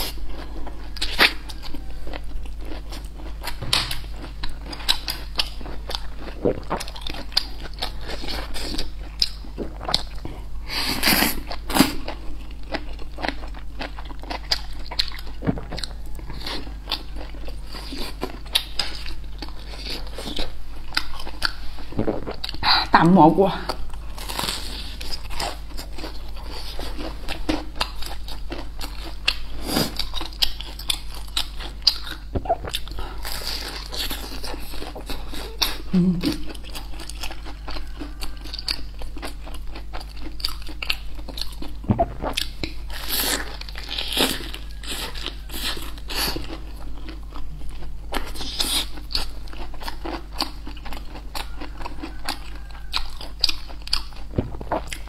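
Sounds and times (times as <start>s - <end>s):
crunchy bites and chewing: 0.0s - 22.8s, 23.7s - 55.0s.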